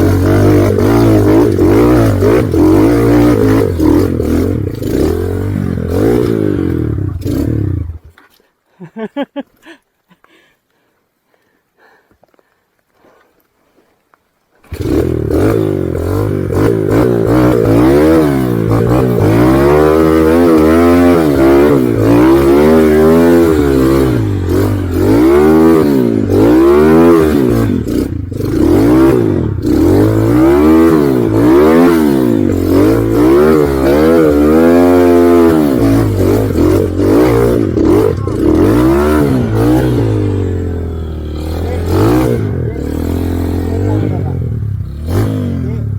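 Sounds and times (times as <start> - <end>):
motorcycle engine revving: 0.0 - 8.1, 14.6 - 45.9.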